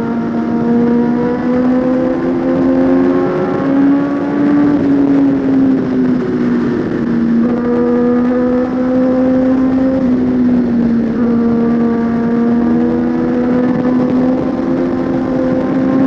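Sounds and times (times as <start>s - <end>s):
motorcycle engine running hard: 0.0s - 16.0s.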